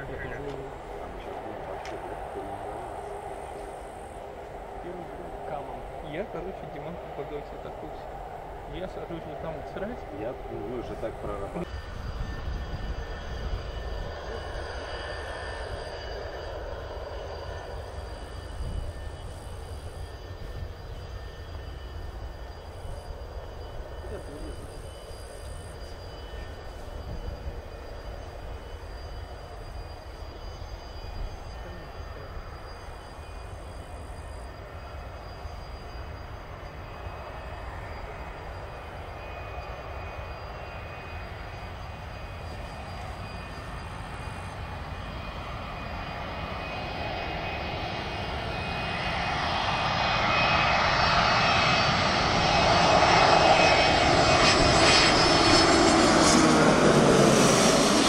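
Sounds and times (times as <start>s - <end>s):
aircraft engine flying past: 0.0s - 58.0s.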